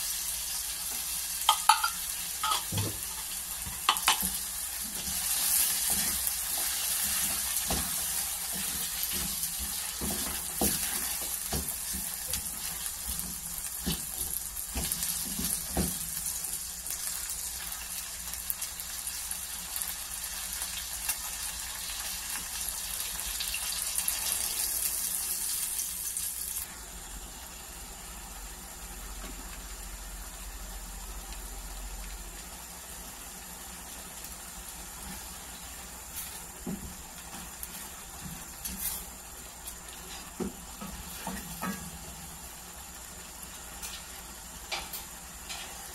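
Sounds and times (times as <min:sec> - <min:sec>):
food simmering hiss: 0:00.0 - 0:45.9
food sizzling in frying pan: 0:00.0 - 0:45.9.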